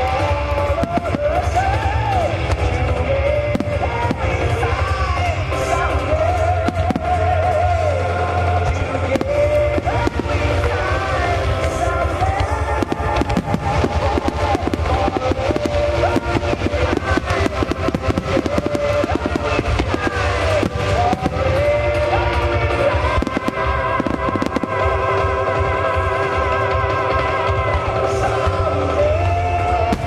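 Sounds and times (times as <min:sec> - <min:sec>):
fireworks bursting and crackling: 0:00.0 - 0:30.0
music playing: 0:00.0 - 0:30.0.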